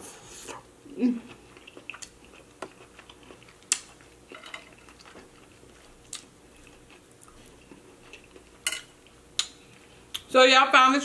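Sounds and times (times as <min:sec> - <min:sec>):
person chewing: 0:00.2 - 0:10.2.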